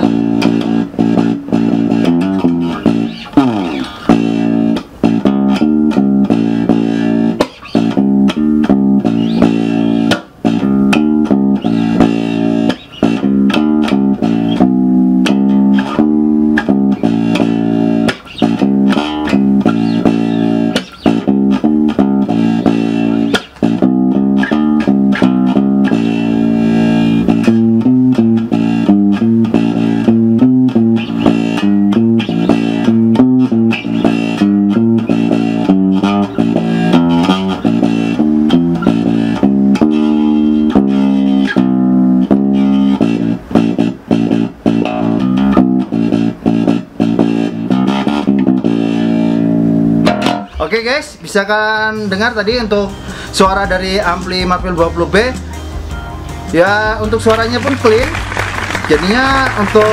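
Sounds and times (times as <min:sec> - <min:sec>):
electric bass guitar plucked: 0:00.0 - 0:59.9.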